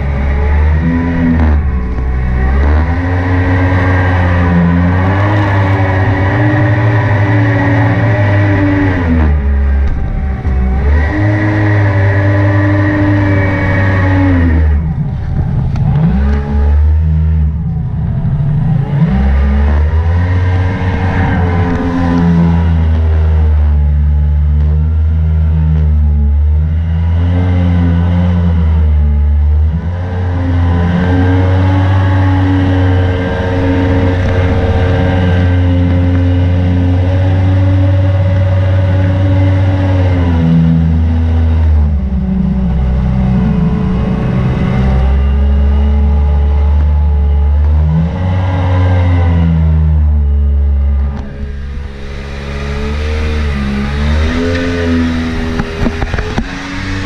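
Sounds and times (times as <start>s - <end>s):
jet boat engine running hard: 0.0s - 57.0s.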